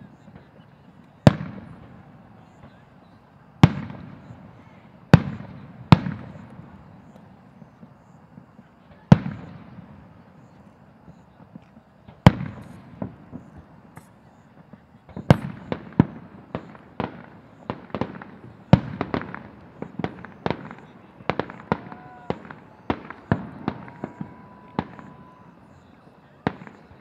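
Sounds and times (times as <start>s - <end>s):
firework shells bursting: 5.1s - 27.0s.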